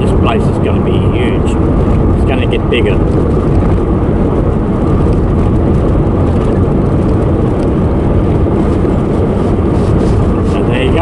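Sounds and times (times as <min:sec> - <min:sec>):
car road noise from inside cabin: 0:00.0 - 0:11.0.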